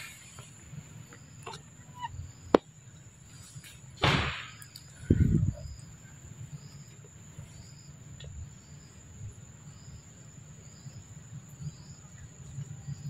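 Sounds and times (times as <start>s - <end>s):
insect chirp: 0.0s - 13.0s
insects buzzing: 0.0s - 13.0s.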